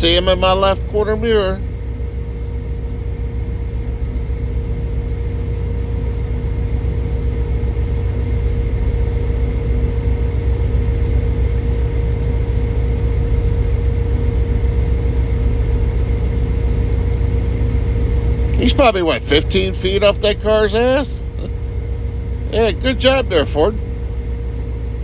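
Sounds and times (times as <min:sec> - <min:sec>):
faint steady hum: 0:00.0 - 0:25.0
truck engine and tyre drone: 0:00.0 - 0:25.0.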